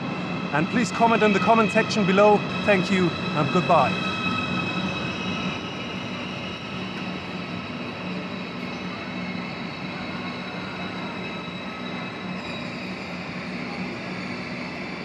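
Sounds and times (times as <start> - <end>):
station noise: 0.0 - 15.0
train mechanical hum: 0.0 - 15.0.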